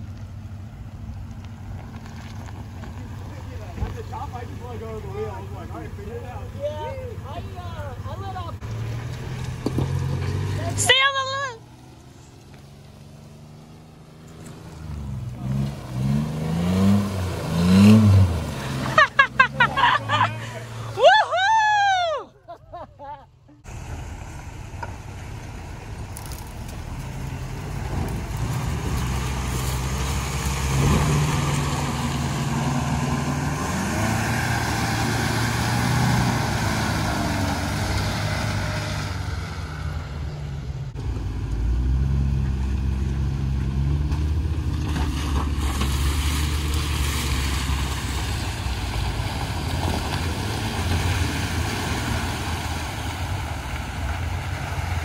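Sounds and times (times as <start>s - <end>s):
off-road vehicle engines running: 0.0s - 55.0s.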